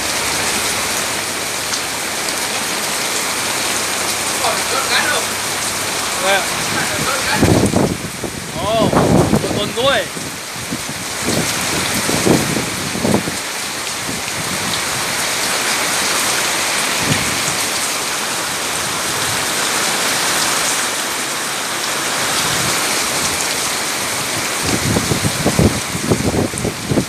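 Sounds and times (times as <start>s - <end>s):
heavy rain pouring: 0.0s - 27.0s
low rumbles: 0.0s - 27.0s.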